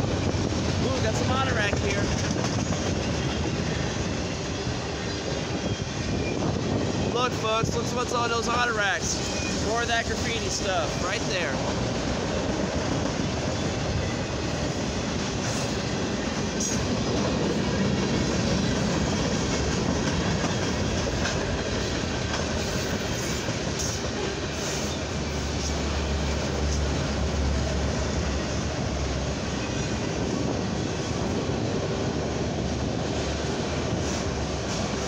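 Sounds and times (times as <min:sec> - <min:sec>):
steel wheels rumbling on rail: 0:00.0 - 0:35.0.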